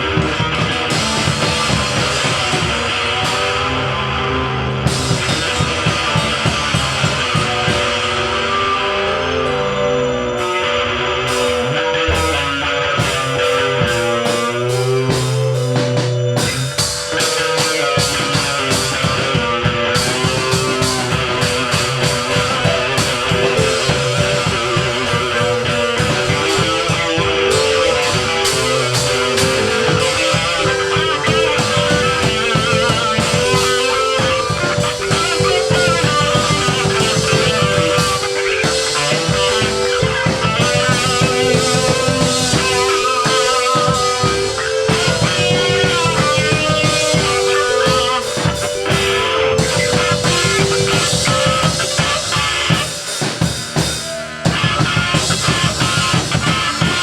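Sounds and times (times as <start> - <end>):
rock music: 0.0 - 57.0.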